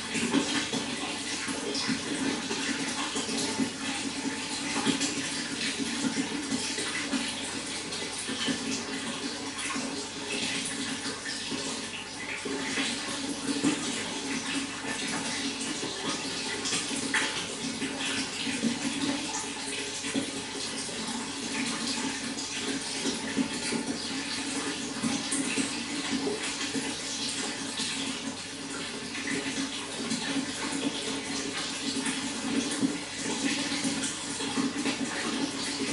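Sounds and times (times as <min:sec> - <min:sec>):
running water splashing: 0:00.0 - 0:35.9.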